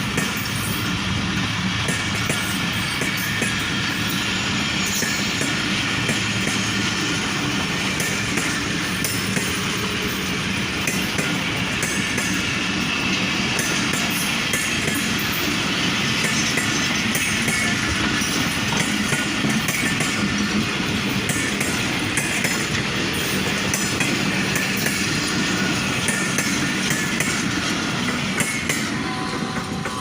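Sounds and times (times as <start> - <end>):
train rumbling on tracks: 0.0 - 30.0.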